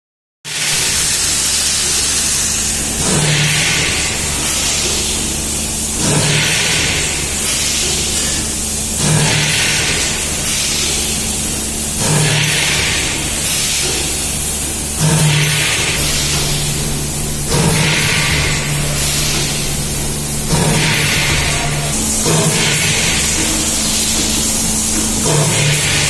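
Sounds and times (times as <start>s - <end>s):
machine hiss: 0.5s - 26.0s
machine low hum: 2.2s - 26.0s
machine thump: 3.0s - 8.3s, 9.0s - 11.3s, 12.0s - 14.2s, 14.8s - 26.0s.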